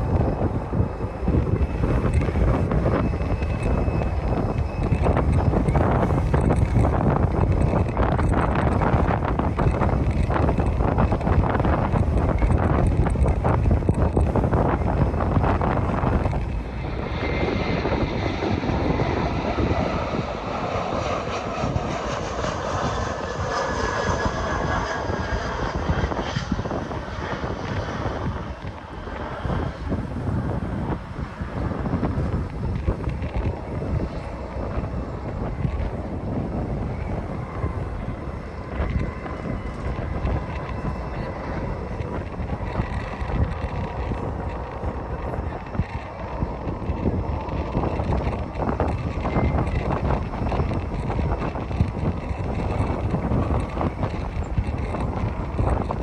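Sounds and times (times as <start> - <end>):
jet airliner landing: 0.0 - 56.0
wind on microphone: 0.0 - 56.0.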